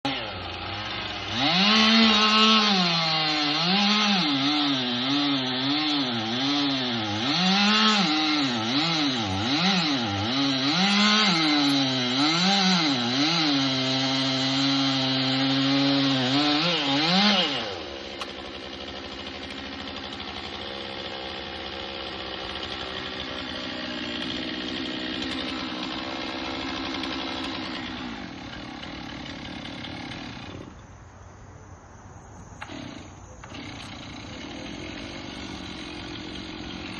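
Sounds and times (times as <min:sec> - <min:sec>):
chainsaw cutting wood: 0:00.0 - 0:30.9, 0:32.6 - 0:36.9.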